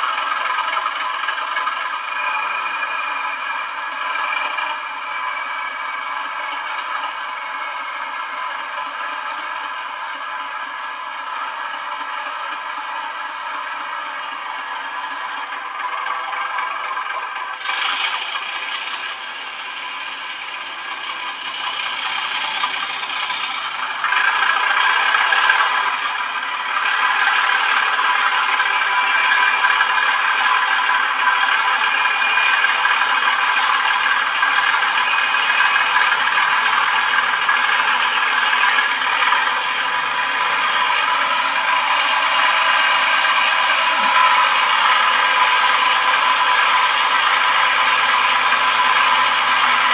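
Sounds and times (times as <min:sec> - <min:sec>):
diesel engine through small speaker: 0:00.0 - 0:49.9.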